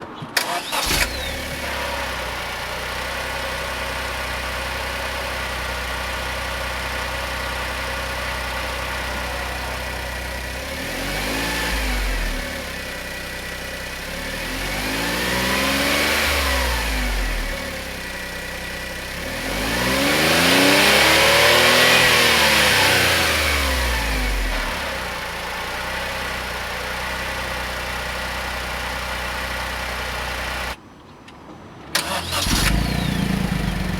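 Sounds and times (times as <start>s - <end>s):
car engine revving: 0.6s - 30.8s, 32.0s - 33.9s
car engine idling: 0.7s - 30.8s, 32.0s - 33.9s.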